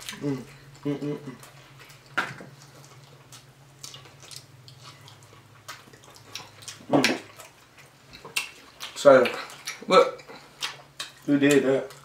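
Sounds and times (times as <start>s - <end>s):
people chewing ribs: 0.0s - 12.0s.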